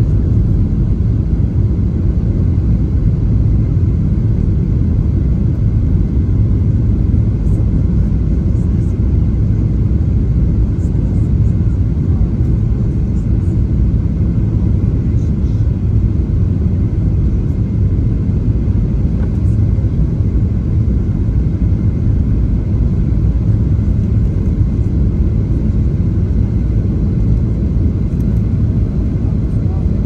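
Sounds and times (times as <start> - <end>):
aircraft cabin engine rumble: 0.0 - 30.0.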